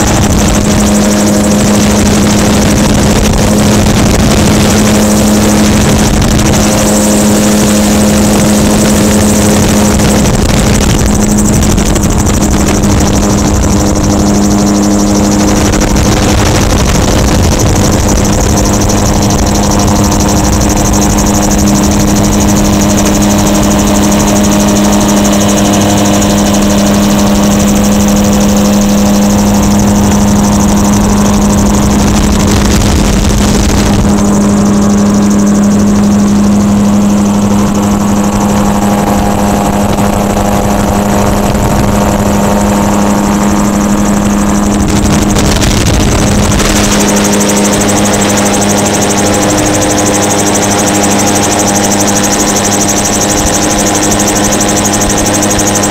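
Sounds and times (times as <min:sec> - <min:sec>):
gyrocopter engine and propeller: 0:00.0 - 0:55.9
wind rushing: 0:00.0 - 0:55.9.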